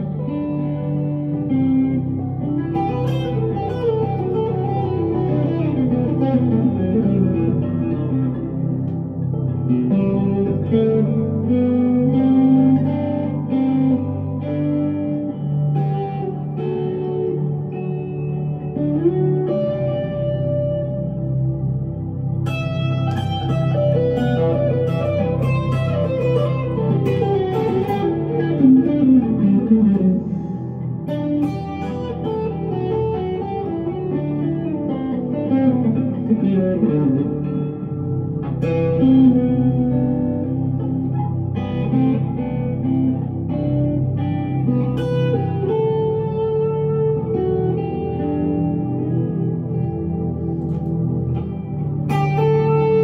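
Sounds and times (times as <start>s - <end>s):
electric guitar lead with reverb: 0.0s - 53.0s.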